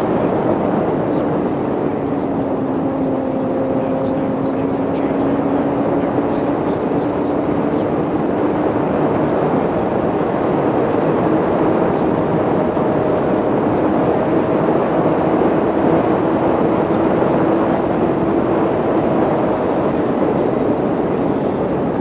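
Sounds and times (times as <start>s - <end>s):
motorcycle engine cruising: 0.0s - 22.0s
wind rush on microphone: 0.0s - 22.0s.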